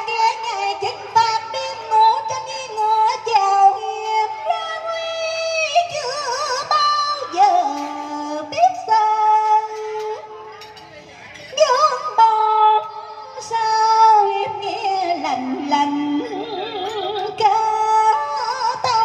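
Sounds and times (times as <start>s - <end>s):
woman singing opera through microphone: 0.0s - 10.3s, 11.5s - 19.0s.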